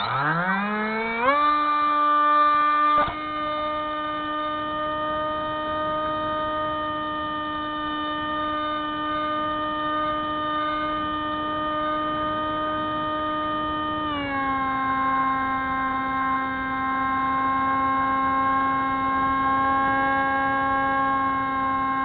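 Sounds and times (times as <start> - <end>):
electric motor propeller whining: 0.0 - 22.0.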